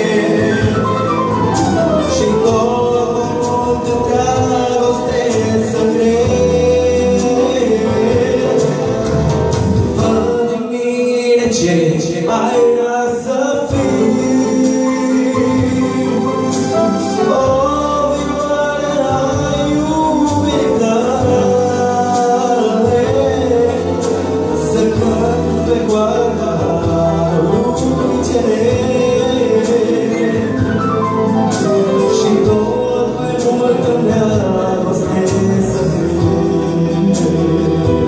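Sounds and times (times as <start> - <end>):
electronic keyboard: 0.0 - 11.0, 12.4 - 38.0
man singing into a microphone: 0.0 - 38.0
piano accordion: 0.0 - 38.0.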